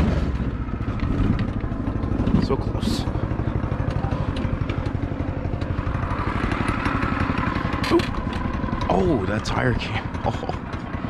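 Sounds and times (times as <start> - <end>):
faint engine whine: 0.0 - 11.0
go-kart engine running: 0.0 - 11.0.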